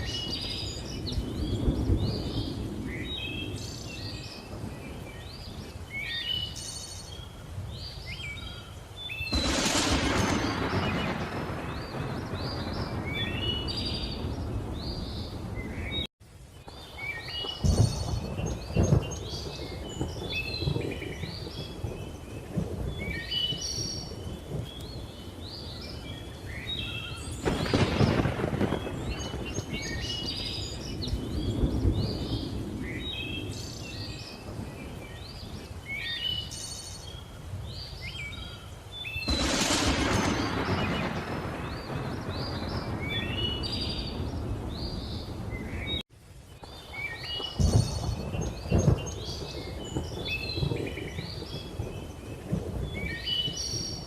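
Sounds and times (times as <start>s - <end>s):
low rolling thunder: 0.0s - 7.9s, 9.2s - 16.1s, 16.8s - 36.2s, 39.2s - 46.0s, 46.7s - 54.0s
birds calling and chirping: 0.0s - 54.0s
rain hissing: 0.0s - 54.0s.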